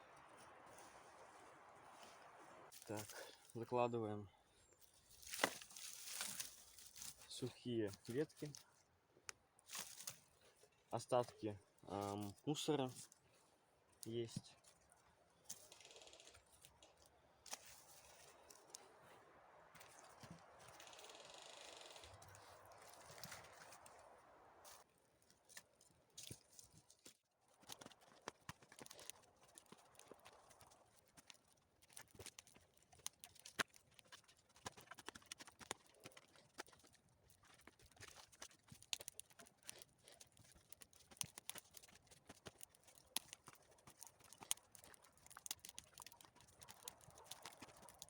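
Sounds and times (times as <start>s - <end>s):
campfire crackling: 0.0s - 3.5s, 9.2s - 25.8s, 27.5s - 48.0s.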